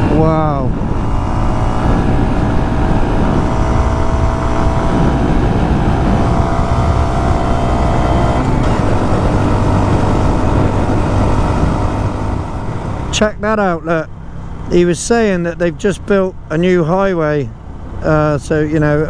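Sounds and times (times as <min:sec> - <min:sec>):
motorcycle engine running: 0:00.0 - 0:15.4
low wind rumble: 0:00.0 - 0:19.0.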